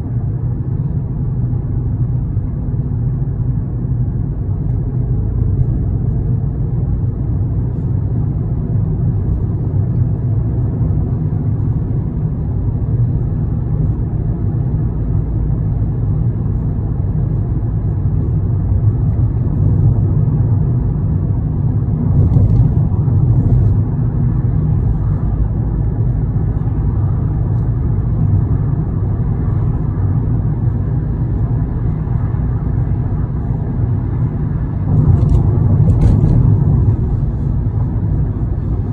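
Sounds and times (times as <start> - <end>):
vehicle rumbling: 0.0 - 38.9.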